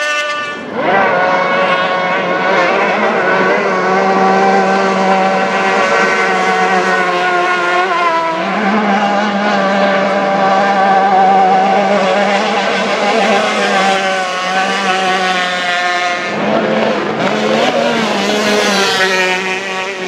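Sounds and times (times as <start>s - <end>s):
racing outboard engines: 0.0s - 20.0s.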